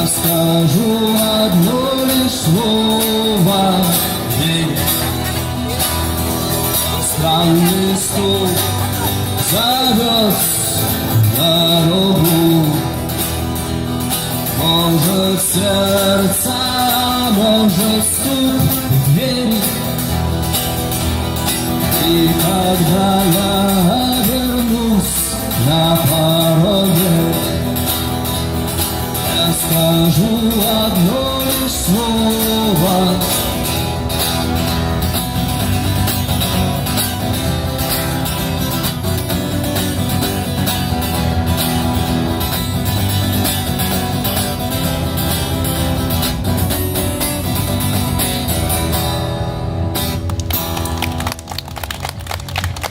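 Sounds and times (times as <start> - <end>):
guitar accompaniment: 0.0 - 52.9.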